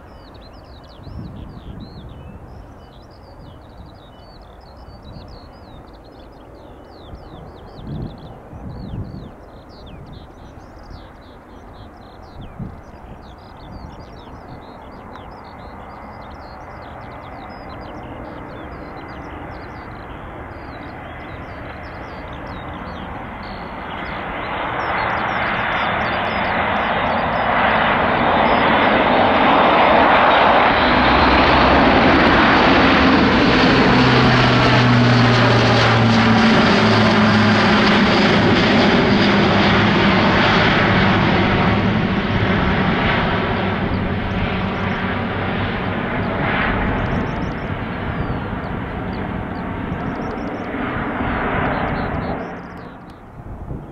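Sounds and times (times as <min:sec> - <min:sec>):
turboprop aircraft droning overhead: 0:00.0 - 0:53.9.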